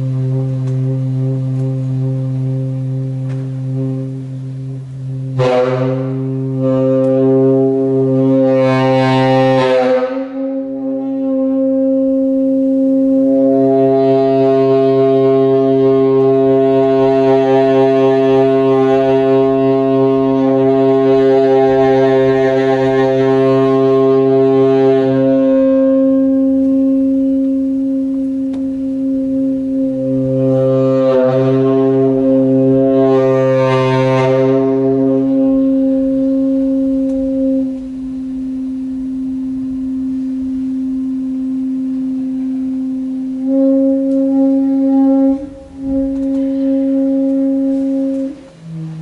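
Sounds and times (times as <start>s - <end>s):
droning horn-like tones: 0.0s - 49.0s.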